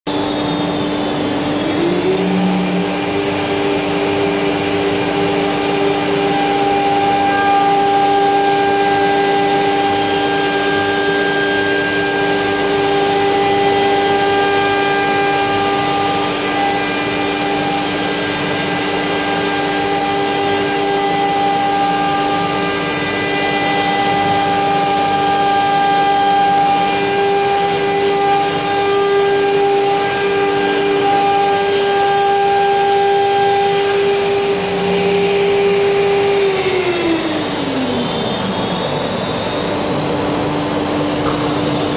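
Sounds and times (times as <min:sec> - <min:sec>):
router cutting wood: 0:00.1 - 0:41.9
router spindle whine: 0:00.1 - 0:41.9
vacuum pump and dust collector rush: 0:00.1 - 0:41.9.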